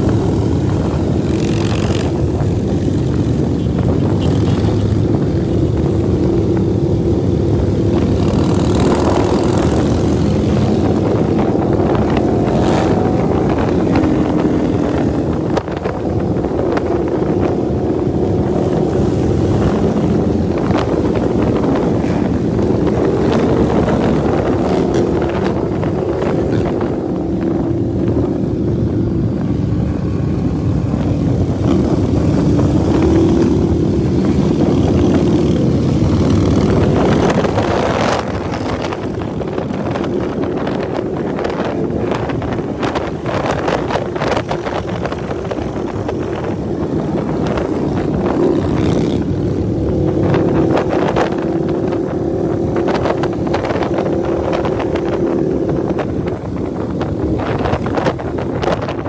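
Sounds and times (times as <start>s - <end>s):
motorcycle engines droning: 0.0s - 59.0s
wind buffeting microphone: 0.0s - 59.0s.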